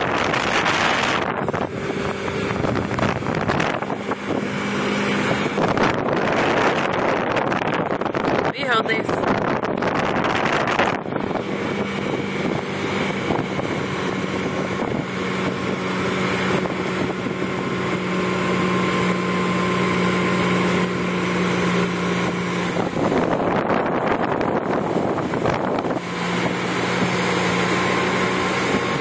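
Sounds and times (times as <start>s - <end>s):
boat wake rushing: 0.0s - 29.0s
motorboat engine droning: 0.0s - 29.0s
wind buffeting microphone: 0.0s - 29.0s.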